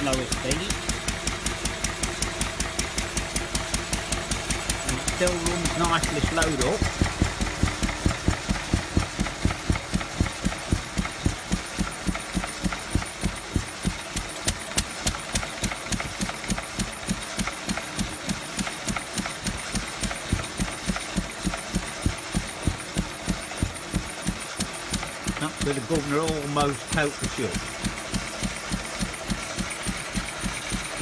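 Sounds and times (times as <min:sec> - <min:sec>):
stationary engine running slowly: 0:00.0 - 0:31.0.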